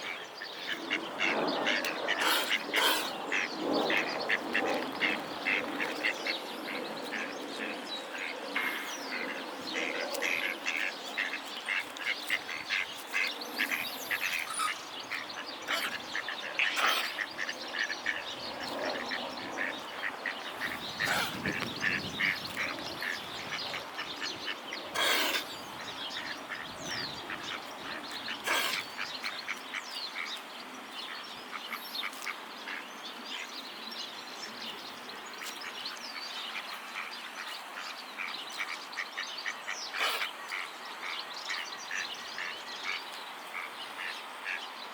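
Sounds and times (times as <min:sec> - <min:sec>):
waterfowl chattering calls: 0:00.0 - 0:30.4, 0:37.0 - 0:44.7.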